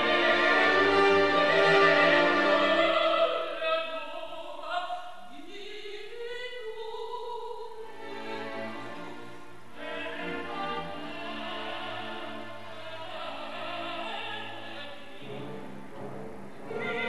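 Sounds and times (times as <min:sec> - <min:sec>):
orchestra and choir performing: 0:00.0 - 0:17.0.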